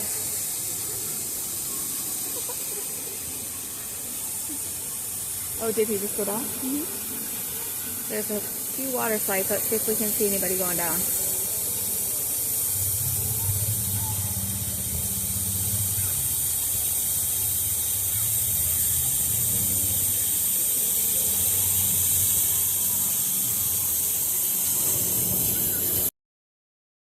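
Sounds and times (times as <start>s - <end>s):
rushing and spraying water: 0.0s - 26.1s.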